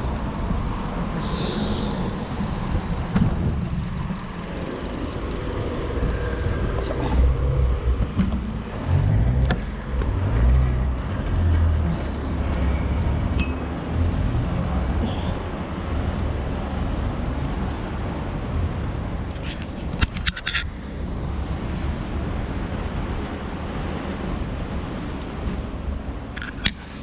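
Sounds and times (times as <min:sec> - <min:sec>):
road traffic noise: 0:00.0 - 0:27.0
wind rumbling on microphone: 0:00.0 - 0:27.0.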